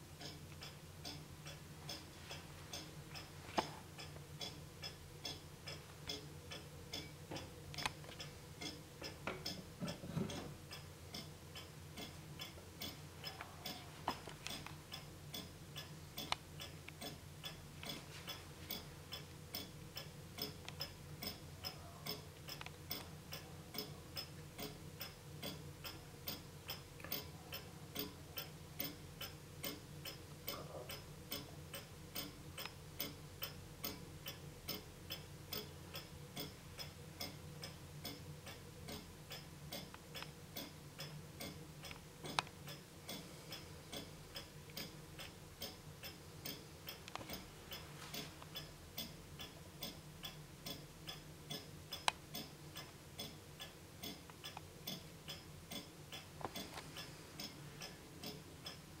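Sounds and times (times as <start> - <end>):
wall clock ticking: 0.0 - 59.0.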